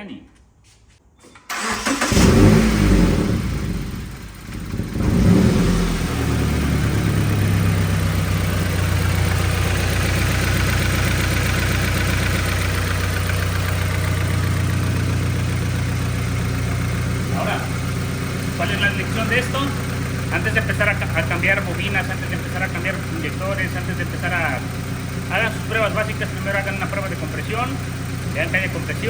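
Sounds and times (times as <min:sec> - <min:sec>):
car engine idling: 0:01.5 - 0:29.0.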